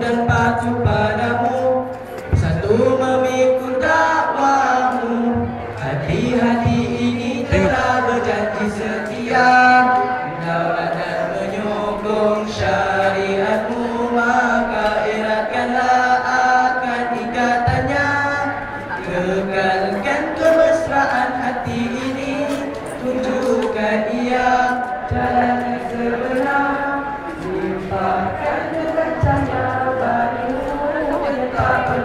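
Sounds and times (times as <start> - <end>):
boys singing a cappella in harmony: 0.0 - 32.0.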